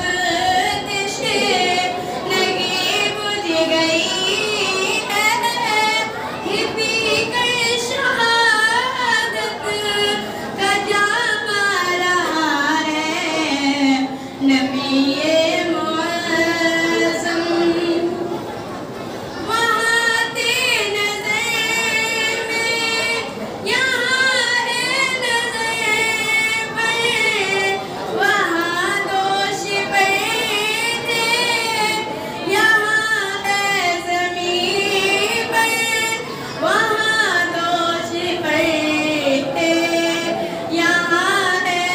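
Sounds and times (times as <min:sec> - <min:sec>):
woman singing into a microphone: 0:00.0 - 0:18.4, 0:19.4 - 0:41.9.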